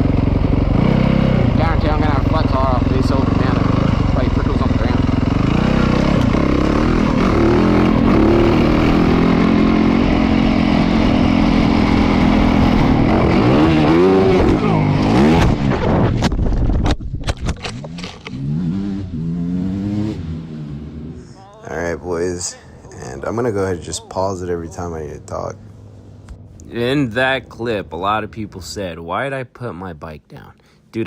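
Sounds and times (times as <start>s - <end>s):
motorcycle engine revving: 0.0s - 16.3s, 17.6s - 28.5s.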